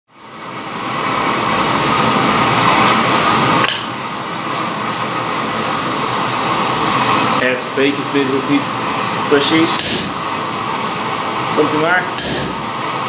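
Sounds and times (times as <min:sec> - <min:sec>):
forge blower running: 0:00.1 - 0:13.0.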